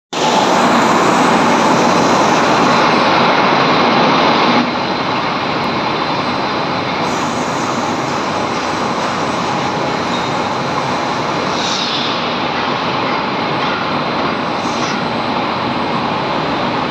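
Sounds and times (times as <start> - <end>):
rolling mill industrial din: 0.1 - 16.9.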